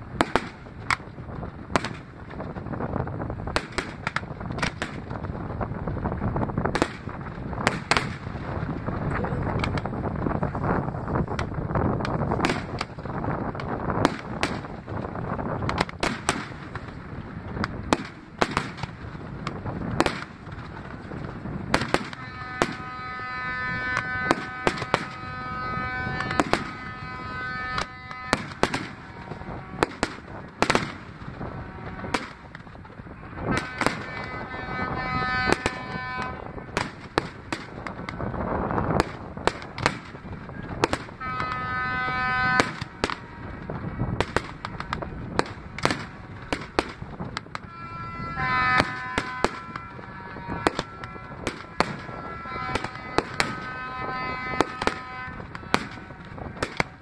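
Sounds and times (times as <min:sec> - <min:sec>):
fireworks bursts and bangs: 0:00.0 - 0:57.0
long steady pitched tones: 0:00.0 - 0:57.0
wind buffeting microphone: 0:00.0 - 0:57.0.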